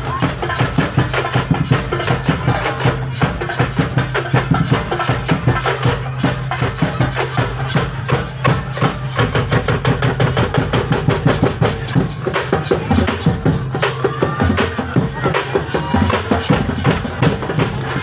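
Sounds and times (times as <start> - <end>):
percussion dance music: 0.0 - 18.0.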